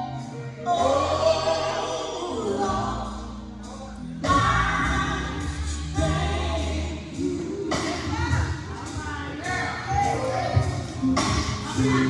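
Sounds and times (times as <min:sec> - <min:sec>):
band with bass line: 0:00.0 - 0:12.0
voices singing gospel: 0:00.0 - 0:12.0.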